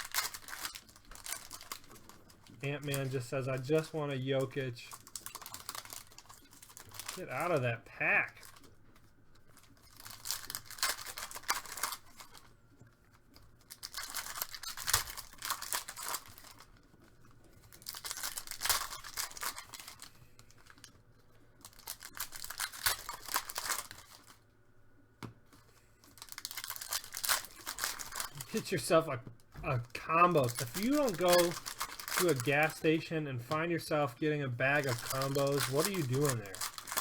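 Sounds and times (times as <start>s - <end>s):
card pack wrappers crinkling: 0.0s - 24.5s, 25.4s - 37.0s.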